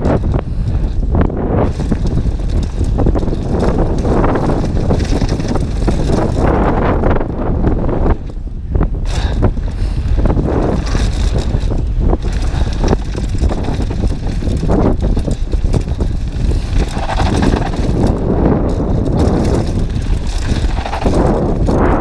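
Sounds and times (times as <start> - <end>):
bike rattling and knocking: 0.0 - 22.0
wind rumble on microphone: 0.0 - 22.0.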